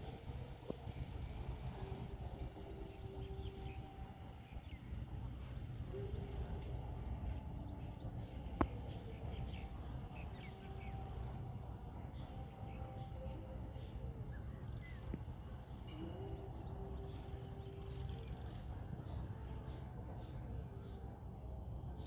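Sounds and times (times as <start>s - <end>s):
small birds chirping faintly: 0.0s - 22.0s
steady low rumble: 0.0s - 22.0s.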